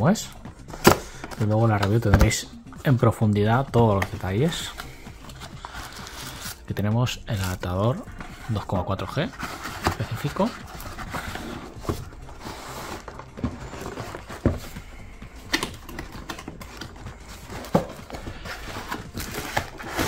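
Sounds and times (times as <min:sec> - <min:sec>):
cardboard packaging rustling: 0:00.7 - 0:20.0.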